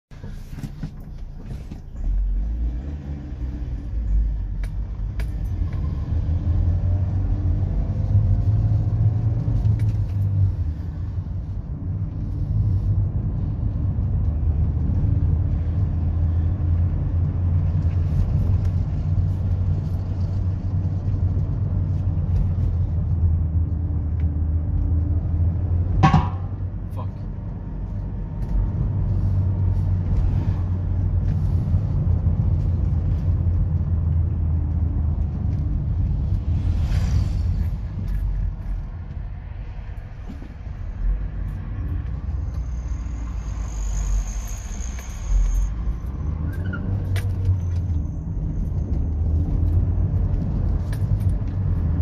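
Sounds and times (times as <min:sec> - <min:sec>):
car engine and road rumble: 0:00.1 - 0:52.0.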